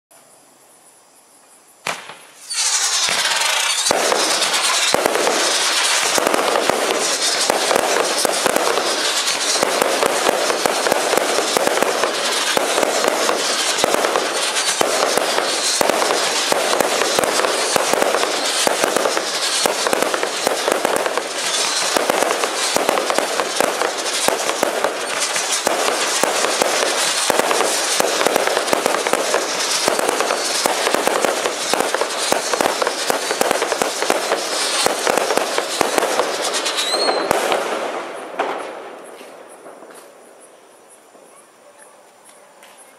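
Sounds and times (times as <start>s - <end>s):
firework barrage shots and bursts: 1.8s - 40.4s.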